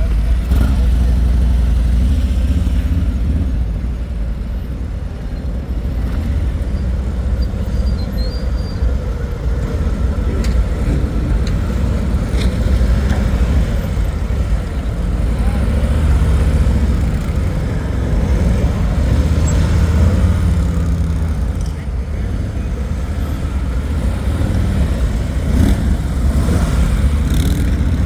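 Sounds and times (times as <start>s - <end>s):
motorcycle engine low rumble: 0.0s - 28.0s.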